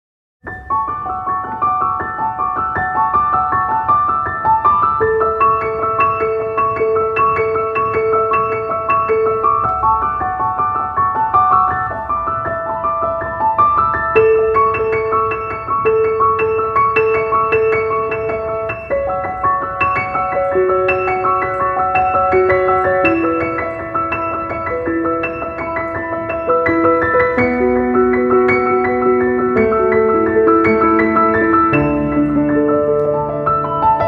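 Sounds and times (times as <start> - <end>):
piano music: 0.4 - 34.0.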